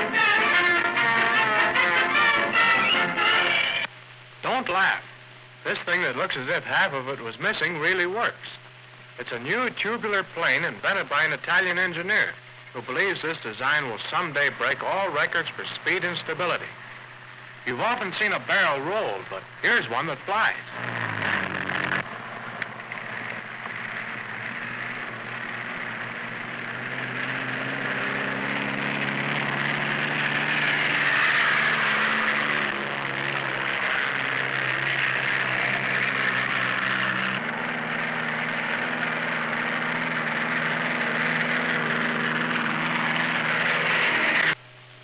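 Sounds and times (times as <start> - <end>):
propeller aircraft engine drone: 0.0 - 45.0.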